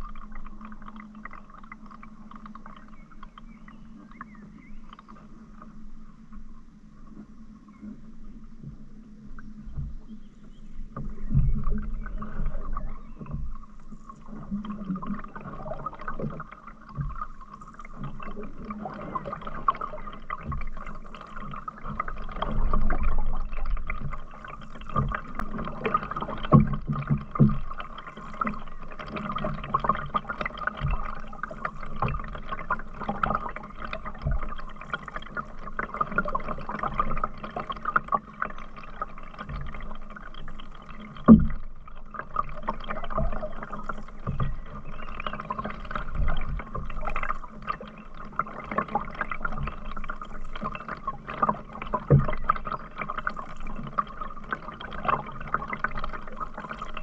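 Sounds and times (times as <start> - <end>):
water sloshing along hull: 0.0 - 57.0
paddle strokes knocking and splashing: 7.9 - 57.0.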